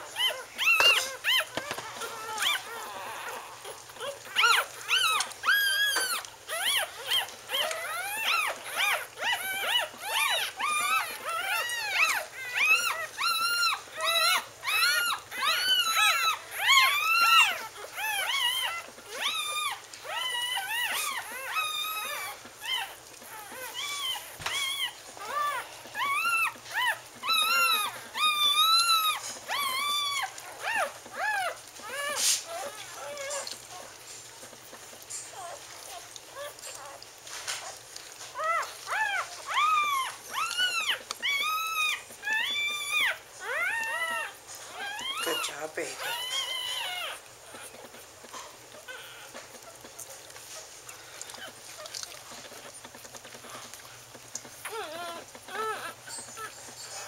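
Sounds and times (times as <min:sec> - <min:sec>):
puppies squeaking and whimpering: 0:00.0 - 0:57.0.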